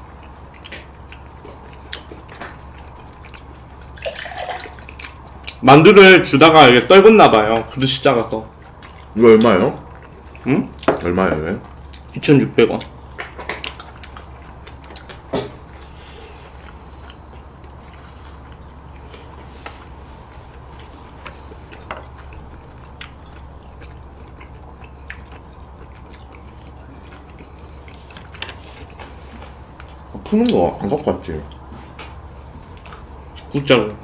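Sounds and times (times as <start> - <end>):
chewing: 0.0 - 5.6, 8.4 - 12.1, 12.7 - 33.6
steady low hum: 0.0 - 34.0.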